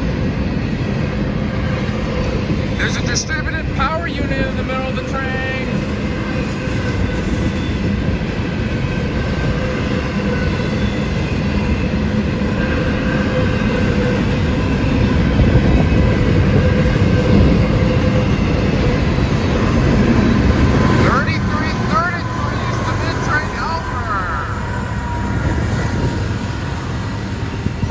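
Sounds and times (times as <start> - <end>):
freight train passing: 0.0 - 27.9.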